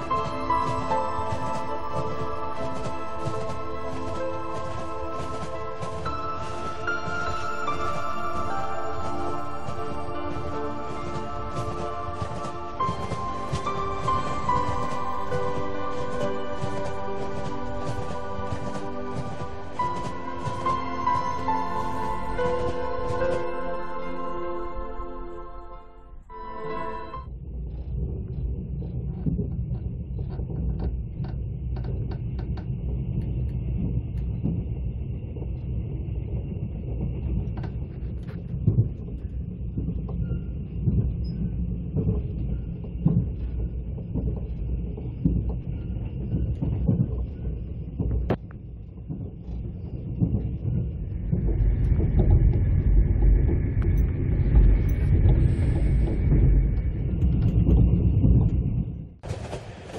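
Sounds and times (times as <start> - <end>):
train wheels rumbling on rails: 0.0 - 24.8, 27.3 - 59.9.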